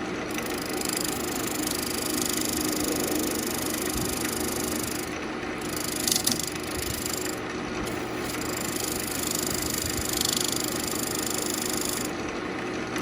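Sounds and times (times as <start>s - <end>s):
wood lathe motor hum: 0.0s - 13.0s.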